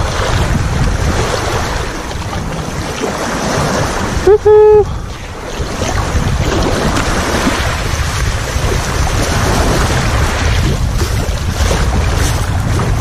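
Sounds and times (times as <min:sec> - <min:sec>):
sea waves washing on shore: 0:00.0 - 0:13.0
wind rumbling on microphone: 0:00.0 - 0:13.0.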